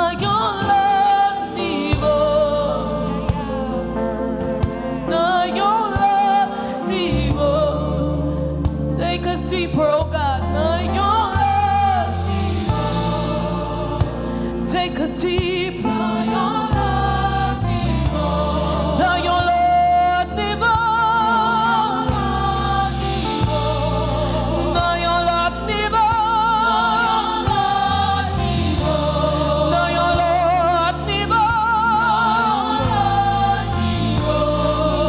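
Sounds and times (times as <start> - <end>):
band with steady bass line: 0.0 - 35.0
voices singing with vibrato: 0.0 - 35.0.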